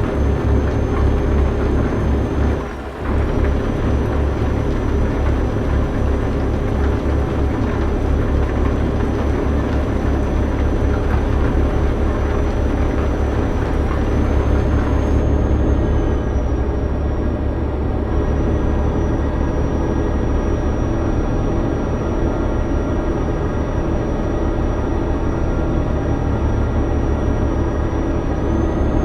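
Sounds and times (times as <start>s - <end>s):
truck engine droning: 0.0s - 29.0s.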